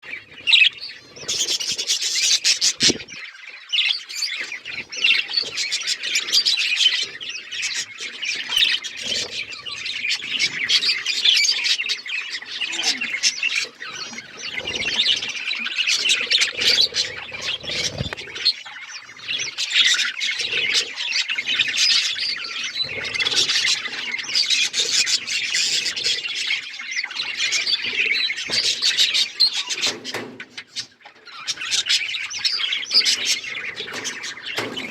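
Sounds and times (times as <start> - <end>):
budgerigars chattering: 0.0 - 34.9.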